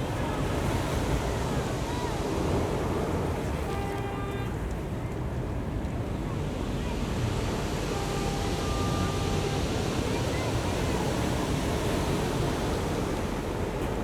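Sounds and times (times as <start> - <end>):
ocean surf washing on beach: 0.0 - 4.8, 5.5 - 14.0.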